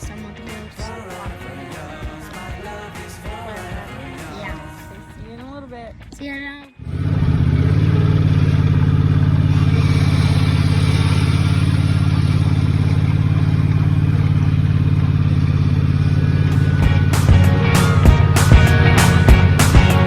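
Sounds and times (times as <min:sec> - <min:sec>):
small vehicle engine running: 0:00.0 - 0:05.1, 0:06.8 - 0:20.0.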